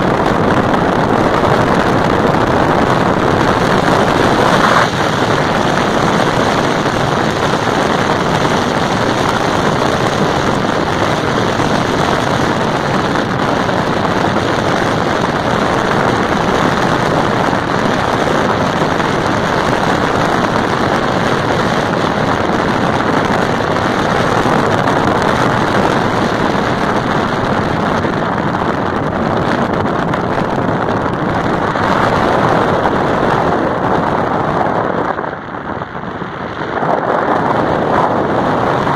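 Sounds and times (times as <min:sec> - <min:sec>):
car road noise: 0:00.0 - 0:38.9
wind rushing: 0:00.0 - 0:38.9.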